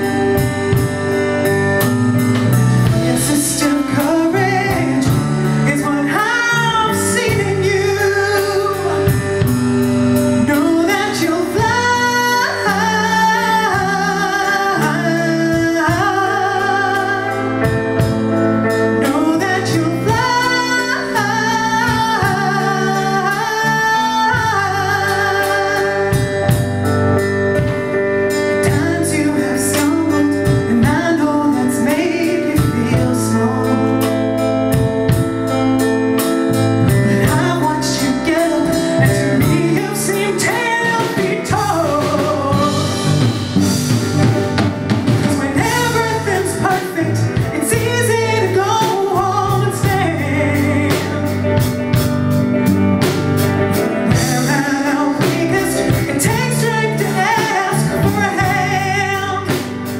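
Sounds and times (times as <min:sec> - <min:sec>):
bass guitar: 0:00.0 - 0:59.9
drums: 0:00.0 - 0:59.9
electric guitar: 0:00.0 - 0:59.9
woman singing lead: 0:00.0 - 0:59.9.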